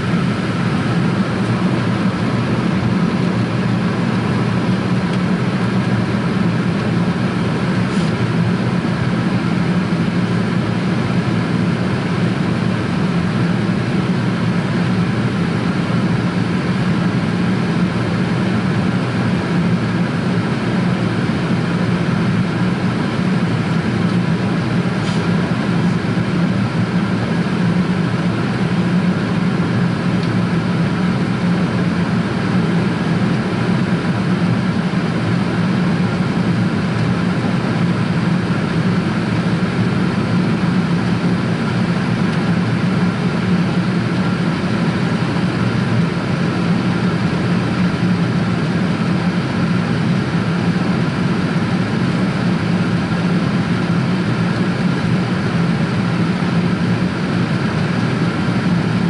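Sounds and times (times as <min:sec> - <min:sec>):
jet engines roaring: 0:00.0 - 0:59.0
low cabin hum: 0:00.0 - 0:59.0.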